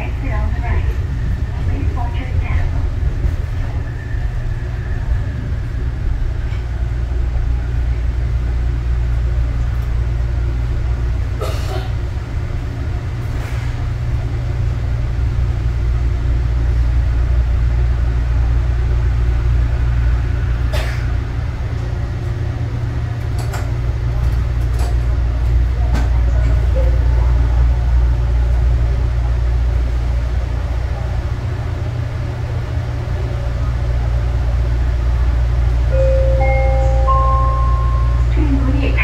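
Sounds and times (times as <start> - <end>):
train running gear rumbling: 0.0 - 39.0.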